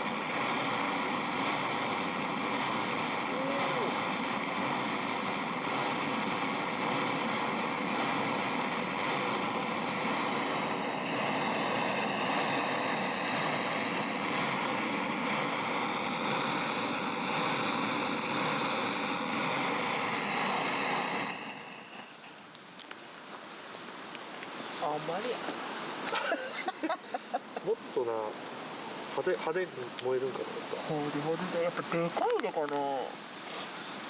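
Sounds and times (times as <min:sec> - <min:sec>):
stream flowing: 0:00.0 - 0:34.0.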